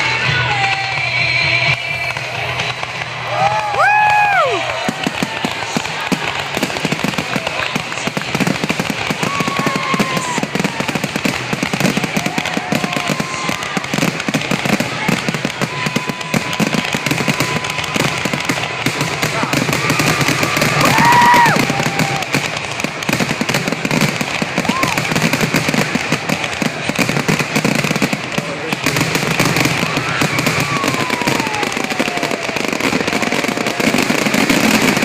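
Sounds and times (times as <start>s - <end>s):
fireworks popping and banging: 0.0s - 35.0s.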